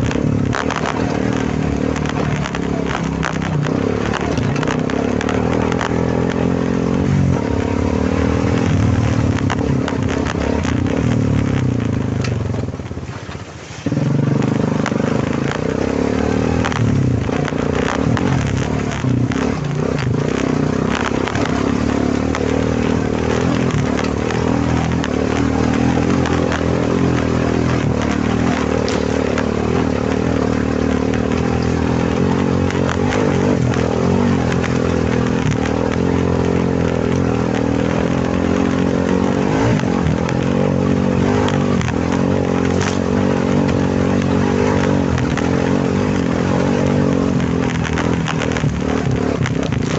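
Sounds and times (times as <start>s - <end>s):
clatter and knocks: 0.0s - 49.9s
quad bike engine running: 0.0s - 49.9s.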